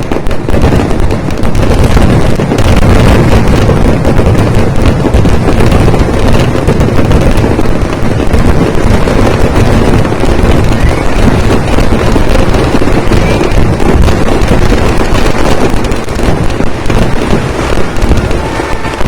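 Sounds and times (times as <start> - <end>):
fireworks blasts: 0.0 - 19.0.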